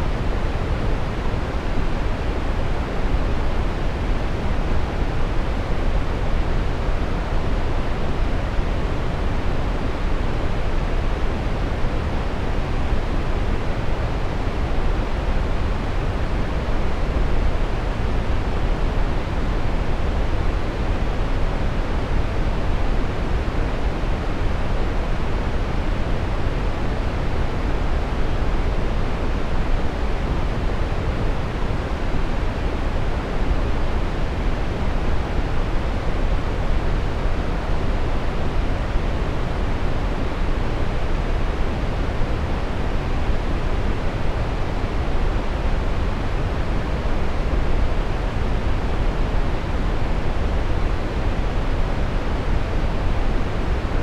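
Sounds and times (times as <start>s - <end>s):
brown noise rush: 0.0s - 54.0s.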